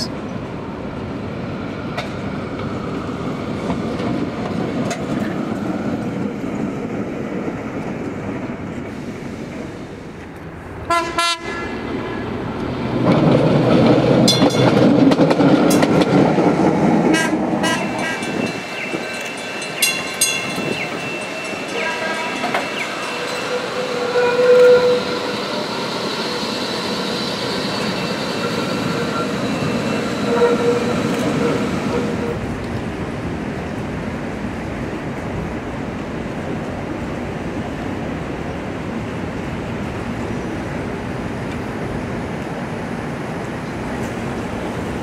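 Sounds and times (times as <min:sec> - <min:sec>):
streetcar wheels clattering on rails: 0:01.8 - 0:10.9, 0:11.6 - 0:45.0.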